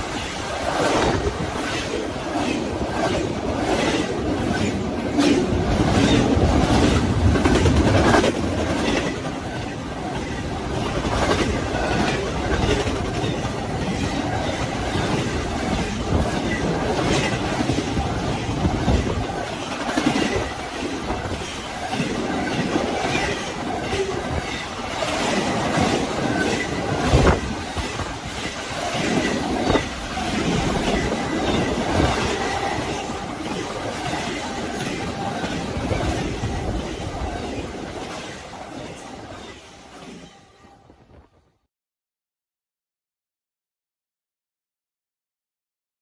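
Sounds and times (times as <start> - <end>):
steel wheels rumbling on rails: 0.0 - 40.6
train cars clanking: 0.0 - 40.7
freight train passing: 0.0 - 41.3.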